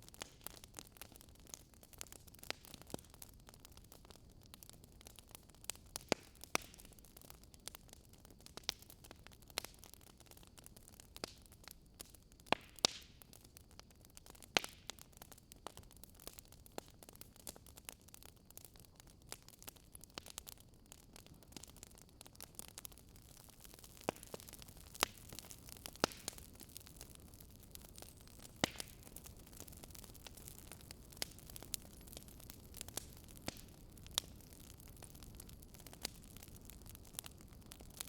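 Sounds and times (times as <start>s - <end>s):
faint steady hiss: 0.0s - 38.0s
wood fire crackling and popping: 0.0s - 38.0s.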